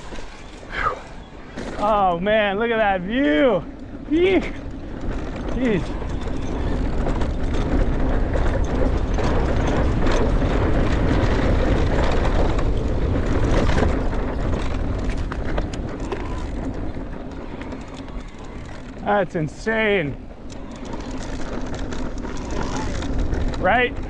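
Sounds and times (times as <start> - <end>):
bike rattling clicks: 0.0 - 24.0
tyres rolling on dirt: 0.0 - 24.0
wind rushing over microphone: 0.0 - 24.0.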